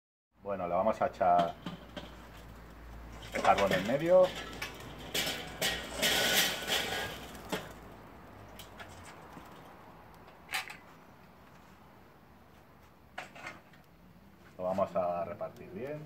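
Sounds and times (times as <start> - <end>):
charcoal coals tumbling: 0.7 - 11.1, 13.1 - 16.0.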